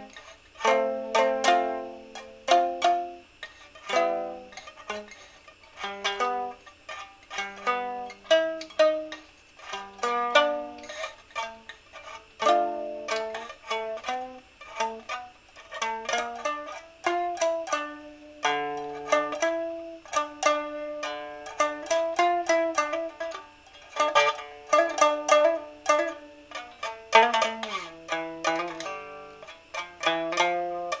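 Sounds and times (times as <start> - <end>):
solo instrumental improvisation: 0.0 - 31.0.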